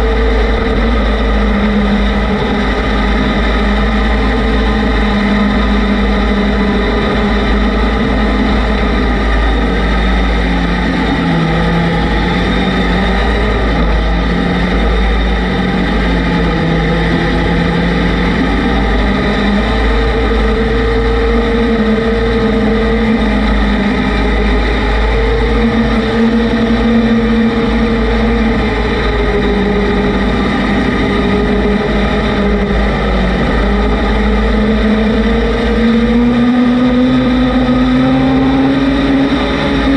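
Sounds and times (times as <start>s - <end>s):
off-road vehicle engine running: 0.0s - 39.9s
wind rumble on microphone: 0.0s - 39.9s.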